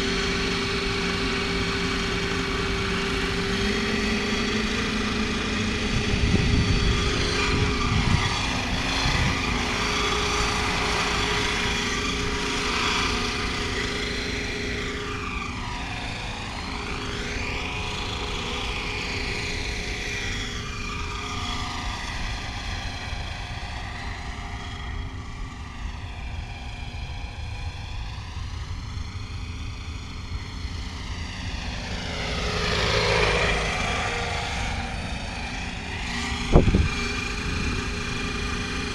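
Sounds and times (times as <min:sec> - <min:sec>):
model helicopter rotor and motor: 0:00.0 - 0:38.9
turbine whine: 0:00.0 - 0:38.9.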